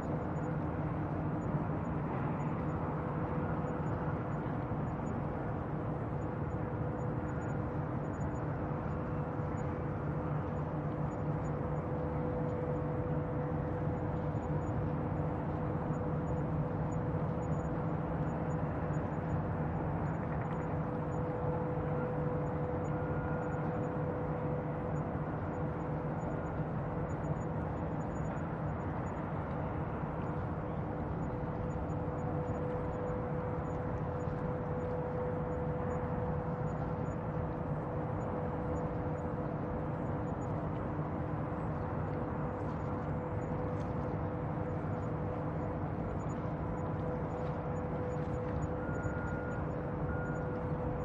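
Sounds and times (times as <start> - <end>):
constant hum: 0.0 - 51.0.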